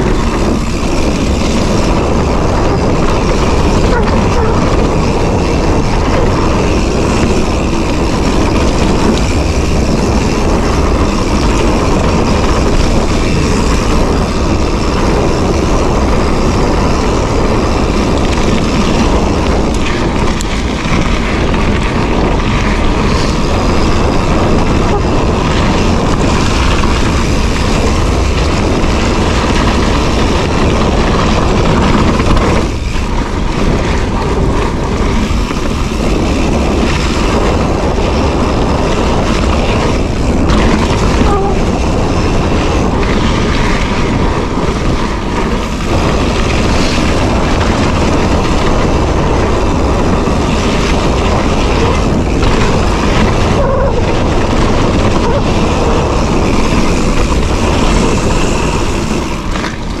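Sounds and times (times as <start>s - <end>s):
tyres rumbling on dirt: 0.0s - 60.0s
wind buffeting microphone: 0.0s - 60.0s.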